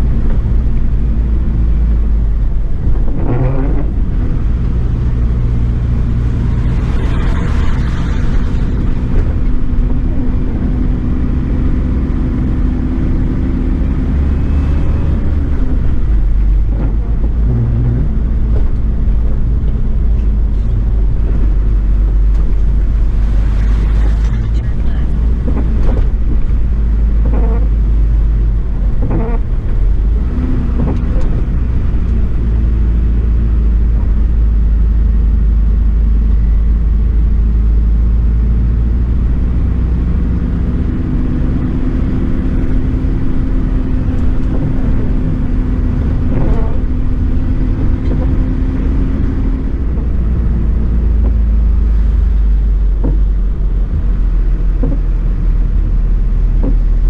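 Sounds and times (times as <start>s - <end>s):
road noise inside cab: 0.0s - 57.0s.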